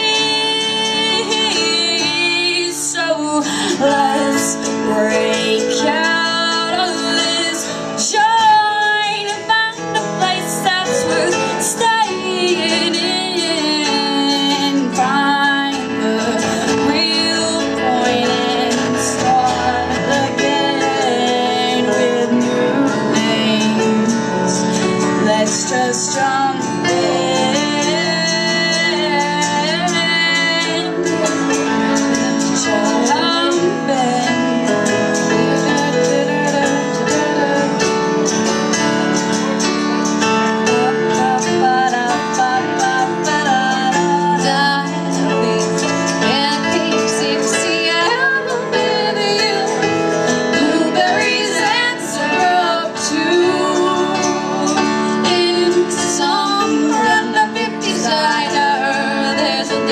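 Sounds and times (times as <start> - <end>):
acoustic guitar: 0.0 - 59.9
electronic keyboard: 0.0 - 59.9
woman singing: 0.0 - 59.9.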